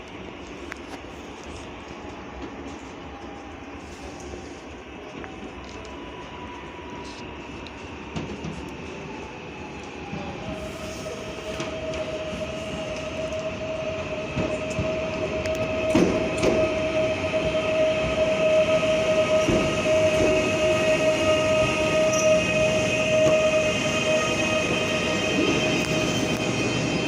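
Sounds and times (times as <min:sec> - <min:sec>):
electric train whine and rumble: 0:00.0 - 0:27.0.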